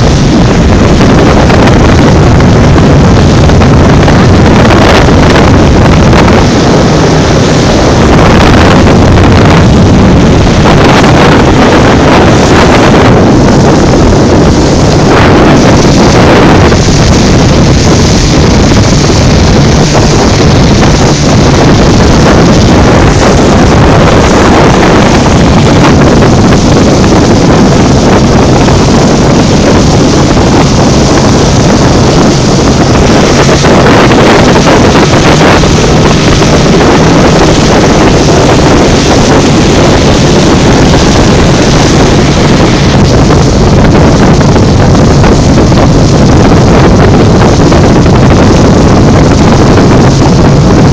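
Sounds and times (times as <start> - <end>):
outboard motor drone: 0.0 - 50.9
water rushing past hull: 0.0 - 50.9
wind buffeting microphone: 0.0 - 50.9.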